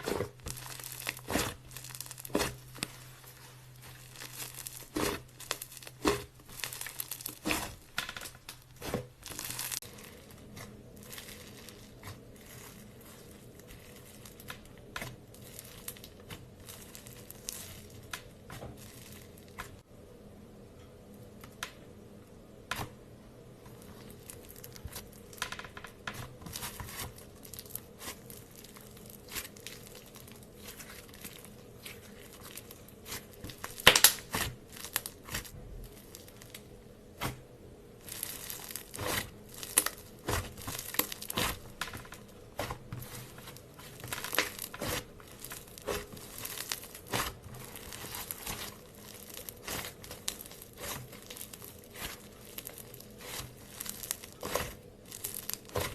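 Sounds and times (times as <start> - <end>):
slime crackling and tearing: 0.0 - 19.8, 23.8 - 37.4, 38.0 - 55.9.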